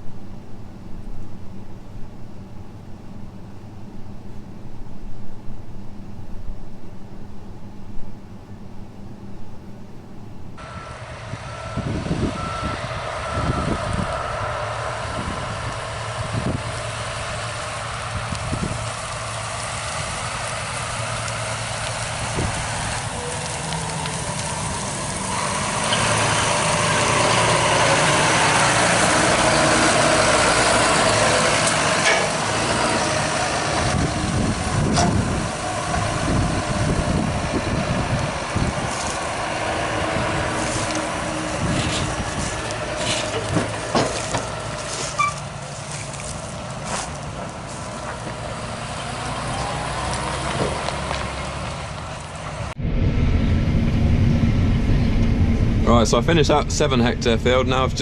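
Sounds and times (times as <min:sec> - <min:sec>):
combine harvester running: 0:07.6 - 0:58.0.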